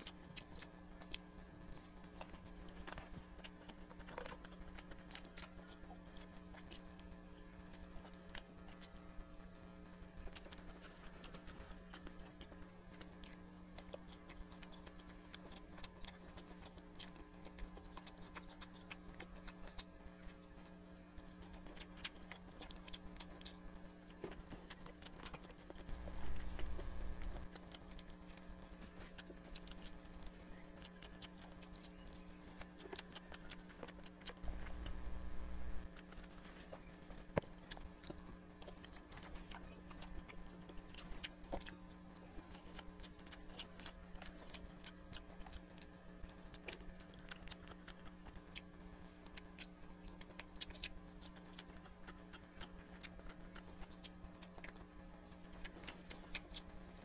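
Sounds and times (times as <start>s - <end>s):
chewing mouth sounds: 0.0s - 57.0s
steady low hum: 0.0s - 57.0s.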